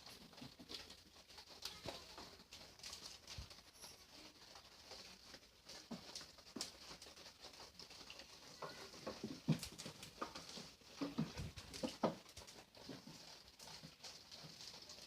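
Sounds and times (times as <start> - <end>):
goat hooves pattering: 0.0 - 15.0.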